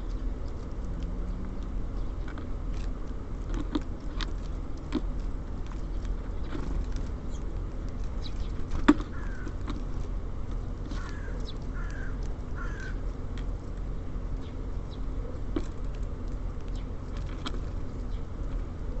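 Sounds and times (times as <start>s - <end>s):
birds pecking on feeder: 0.0s - 19.0s
city traffic hum: 0.0s - 19.0s.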